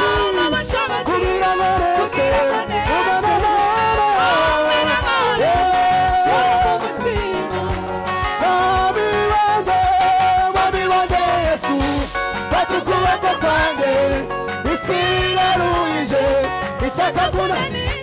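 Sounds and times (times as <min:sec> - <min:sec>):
group of voices singing: 0:00.0 - 0:18.0
lead singer on a microphone: 0:00.0 - 0:18.0
steady drumbeat: 0:00.0 - 0:18.0.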